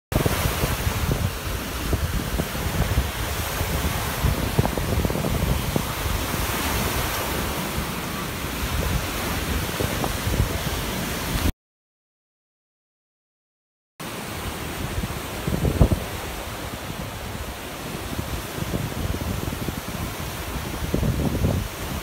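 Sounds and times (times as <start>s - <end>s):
sea surf breaking: 0.1s - 11.5s, 14.0s - 22.0s
wind buffeting microphone: 0.1s - 11.5s, 14.3s - 22.0s.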